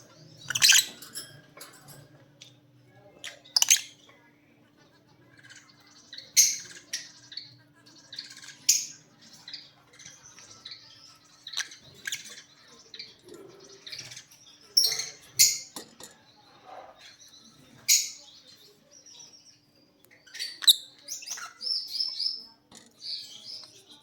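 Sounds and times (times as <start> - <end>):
lovebirds chirping and squawking: 0.0 - 24.0.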